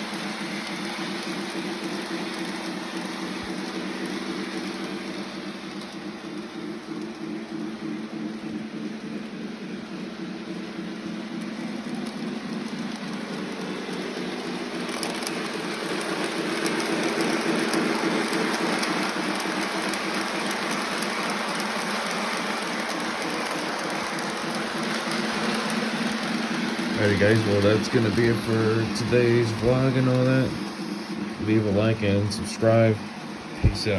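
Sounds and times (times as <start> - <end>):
toy train wheels rattling on rails: 0.0 - 10.0, 10.7 - 33.9
motor hum: 0.0 - 33.9.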